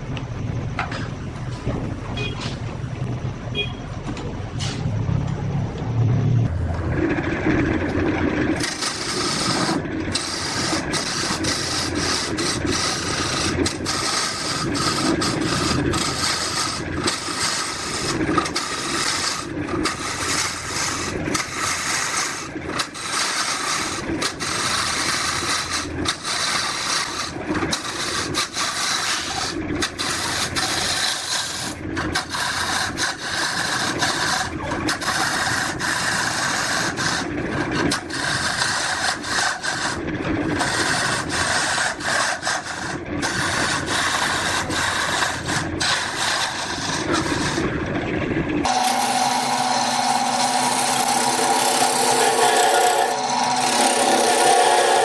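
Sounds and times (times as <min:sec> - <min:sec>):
wood being rasped: 0:08.5 - 0:47.7, 0:48.6 - 0:55.0.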